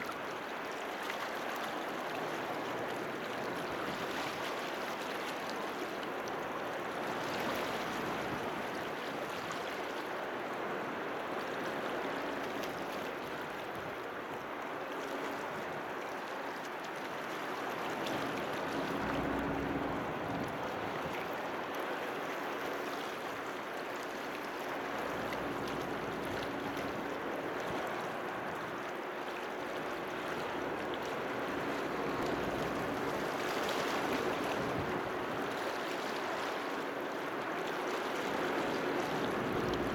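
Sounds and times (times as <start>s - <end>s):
faint ferry engine hum: 0.0s - 39.9s
water lapping and splashing: 0.0s - 39.9s.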